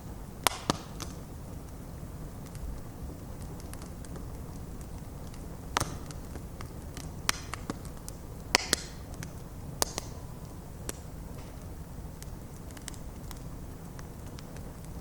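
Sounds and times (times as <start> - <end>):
rush of flames: 0.0 - 15.0
wood crackling and popping: 0.0 - 15.0.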